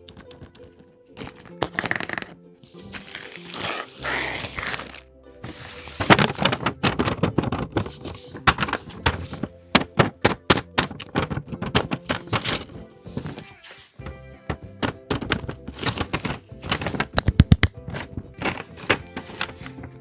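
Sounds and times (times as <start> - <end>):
paper bags tapped and clicking: 0.0 - 2.3, 4.4 - 20.0
background music: 0.0 - 20.0.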